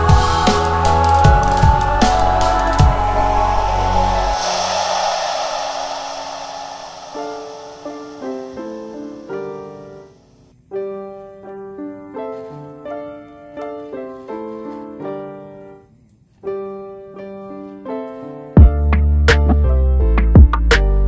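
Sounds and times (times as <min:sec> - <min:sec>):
piano music: 0:00.0 - 0:15.9, 0:16.5 - 0:21.0.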